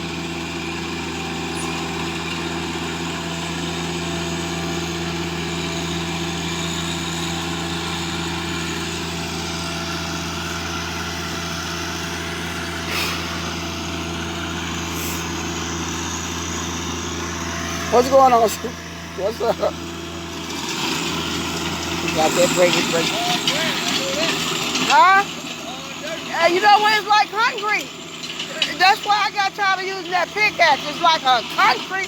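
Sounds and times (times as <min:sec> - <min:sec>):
tractor engine tilling ground: 0:00.0 - 0:32.0.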